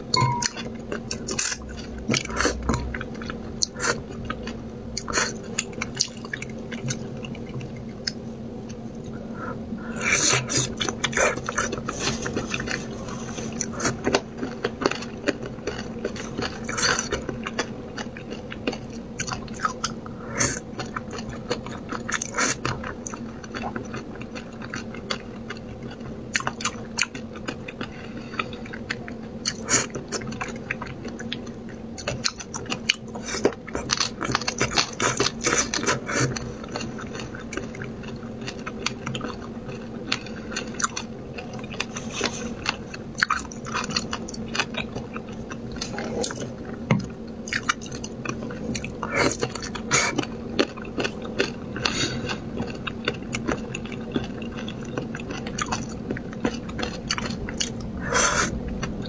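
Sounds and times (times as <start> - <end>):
low steady hum: 0.0 - 59.0
wet chewing and slurping: 0.3 - 59.0.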